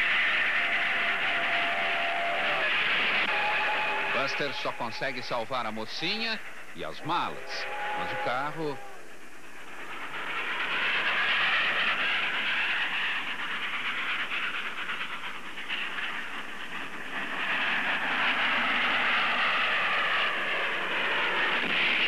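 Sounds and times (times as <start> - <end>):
train wheels clattering past: 0.0 - 22.0.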